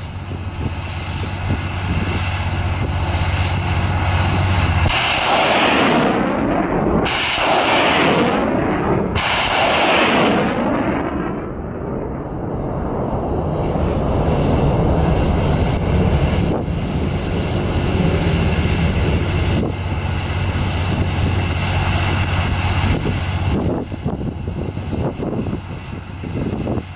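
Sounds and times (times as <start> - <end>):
rockets rushing rumble: 0.0 - 26.9.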